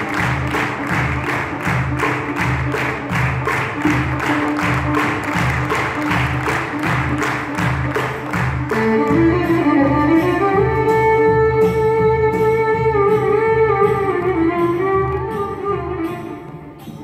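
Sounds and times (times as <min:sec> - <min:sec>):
string ensemble playing: 0:00.0 - 0:17.0.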